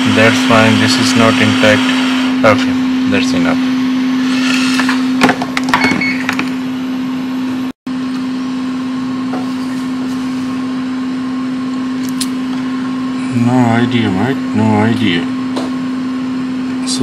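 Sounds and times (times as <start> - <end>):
small electric fan motor humming: 0.0 - 5.2, 6.3 - 17.0.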